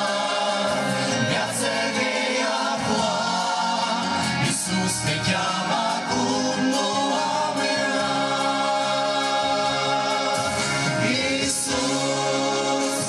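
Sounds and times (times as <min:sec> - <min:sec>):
group singing a hymn: 0:00.0 - 0:13.0.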